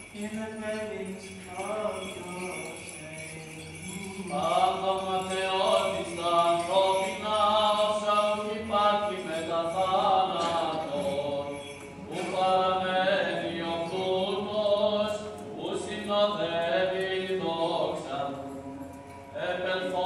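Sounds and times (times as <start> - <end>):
censer bells jingling: 0.0 - 20.0
chanting with held vocal notes: 0.0 - 20.0
low vocal drone: 0.0 - 20.0.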